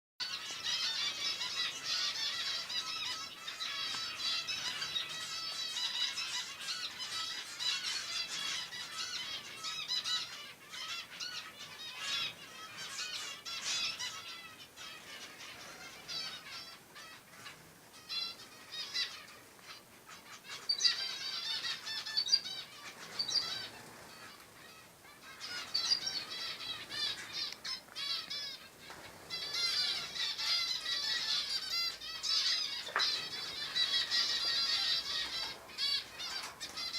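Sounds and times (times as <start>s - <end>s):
songbirds chirping and twittering: 0.2s - 36.9s.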